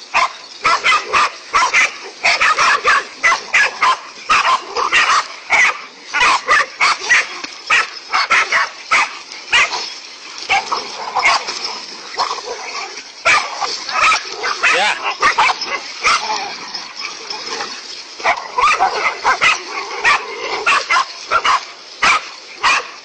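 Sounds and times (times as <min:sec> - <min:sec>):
dog barking: 0:00.1 - 0:09.8, 0:10.5 - 0:11.6, 0:13.2 - 0:16.4, 0:18.2 - 0:23.0.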